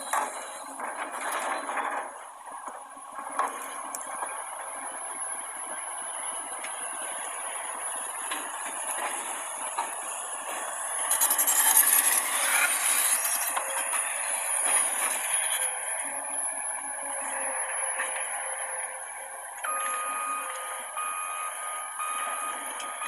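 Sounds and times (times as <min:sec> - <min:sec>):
heavy machinery mechanical noise: 0:00.0 - 0:23.0.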